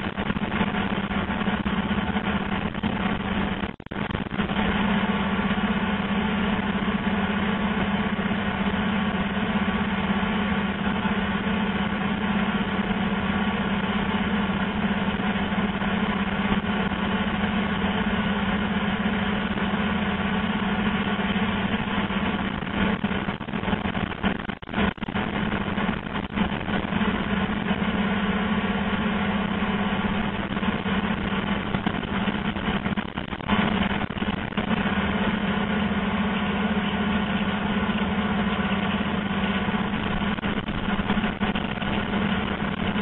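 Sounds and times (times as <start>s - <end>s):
cable blowing machine humming: 0.0s - 43.0s.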